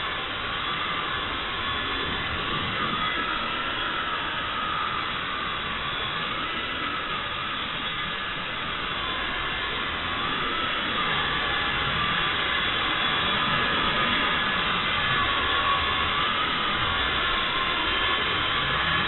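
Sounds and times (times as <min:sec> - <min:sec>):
toy helicopter motor whirring: 0:00.0 - 0:19.0.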